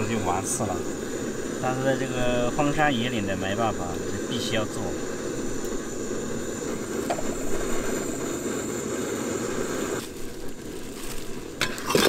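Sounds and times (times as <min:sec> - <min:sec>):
burner hiss: 0:00.0 - 0:12.0
gas stove burner rushing: 0:00.0 - 0:12.0.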